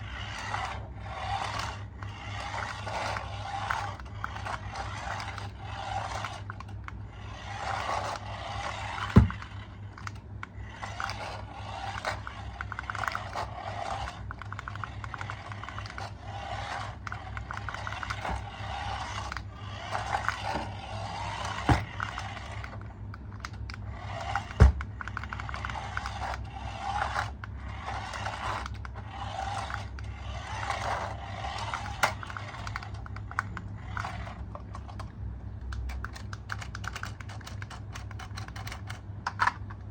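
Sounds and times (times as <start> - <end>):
scraping and rubbing: 0.0 - 35.1
steady low hum: 0.0 - 39.9.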